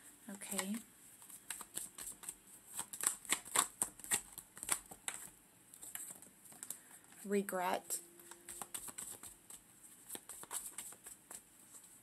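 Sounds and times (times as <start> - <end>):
cards being shuffled by hand: 0.5 - 7.3, 8.2 - 12.0.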